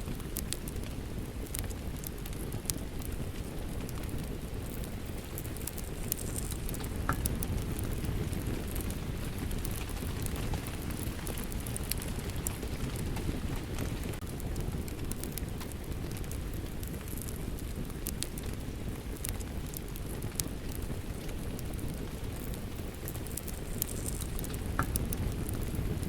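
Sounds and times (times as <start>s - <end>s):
rain rumble: 0.0s - 26.0s
wood fire crackling: 0.0s - 26.0s.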